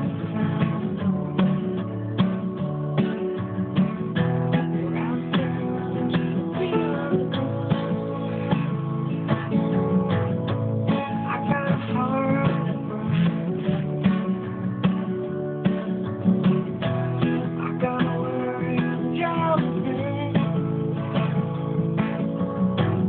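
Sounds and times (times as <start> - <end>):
acoustic guitars strumming: 0.0 - 23.0
picked guitar lead sliding: 0.0 - 23.0.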